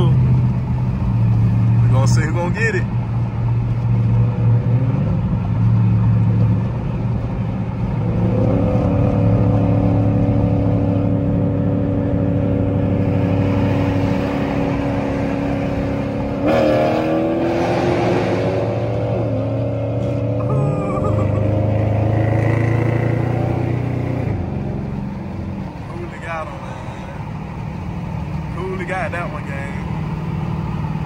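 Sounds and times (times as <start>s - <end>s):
car engines accelerating hard: 0.0s - 31.0s
deep engine drone: 2.9s - 31.0s.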